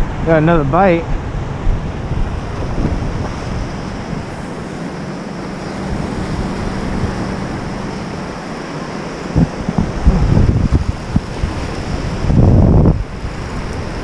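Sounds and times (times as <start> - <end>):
surf breaking on a beach: 0.0 - 14.0
wind buffeting the microphone: 0.0 - 14.0.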